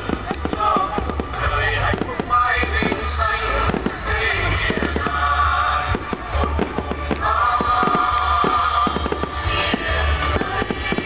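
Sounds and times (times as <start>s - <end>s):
fireworks bangs and crackles: 0.0s - 11.0s
loud music: 0.0s - 11.0s.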